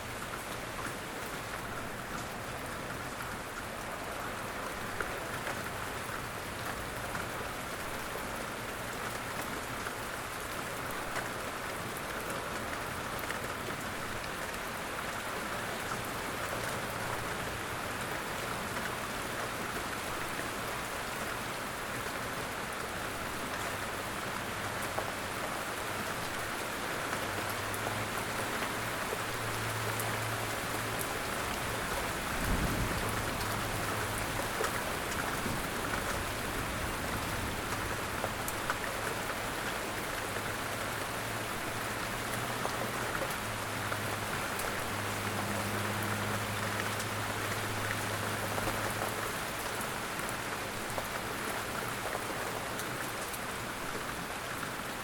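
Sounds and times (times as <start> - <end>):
light rain falling: 0.0 - 55.0
raindrops ticking on surfaces: 0.0 - 55.0.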